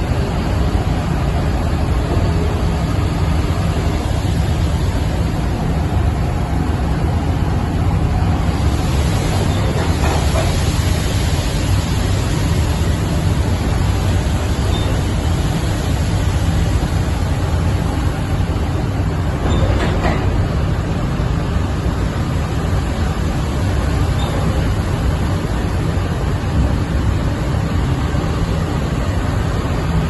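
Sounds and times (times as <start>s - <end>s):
combine harvester running: 0.0s - 30.0s.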